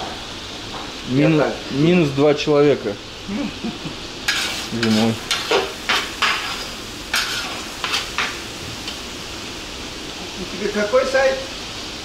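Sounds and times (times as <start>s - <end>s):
carrots sizzling in hot oil: 0.0s - 12.0s.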